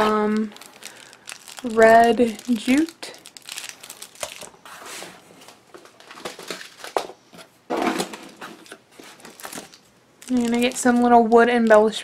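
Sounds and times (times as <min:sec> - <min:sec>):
plastic packaging crinkling: 0:00.0 - 0:04.6, 0:05.4 - 0:07.1, 0:07.9 - 0:12.0.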